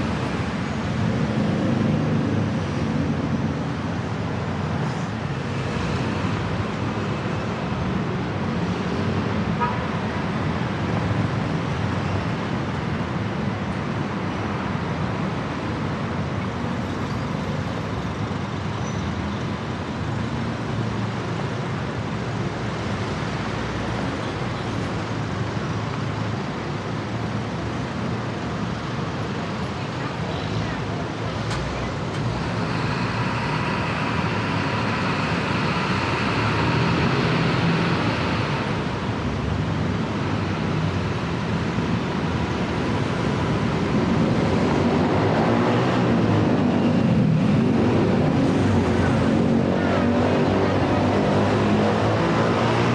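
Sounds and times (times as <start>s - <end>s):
road traffic rumble: 0.0s - 52.9s.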